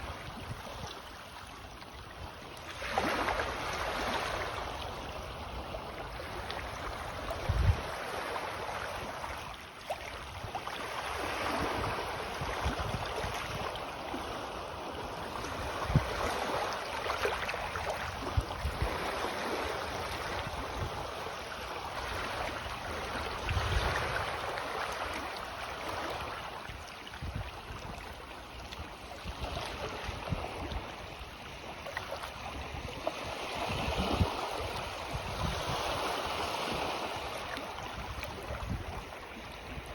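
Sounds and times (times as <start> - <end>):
sea waves lapping on shore: 0.0 - 39.9.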